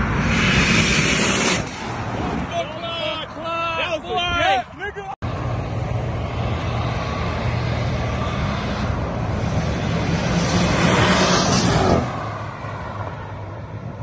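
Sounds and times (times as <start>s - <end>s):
rush of noise: 0.0s - 14.0s.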